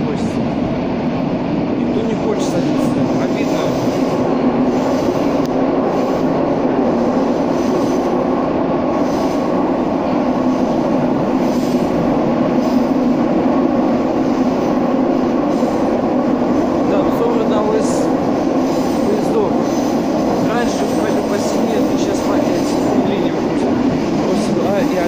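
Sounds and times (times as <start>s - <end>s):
train wheels and motors running: 0.0s - 25.0s.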